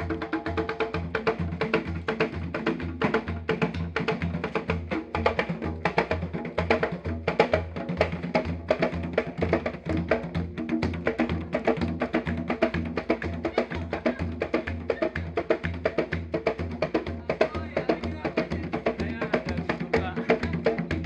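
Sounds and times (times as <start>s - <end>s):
hand drums playing fast rhythm: 0.0s - 21.0s
steady low drum beat: 0.0s - 21.0s.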